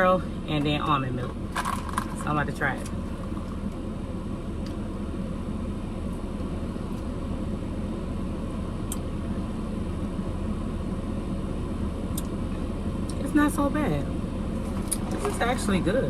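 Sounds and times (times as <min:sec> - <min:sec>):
car engine rumble inside car: 0:00.0 - 0:16.0.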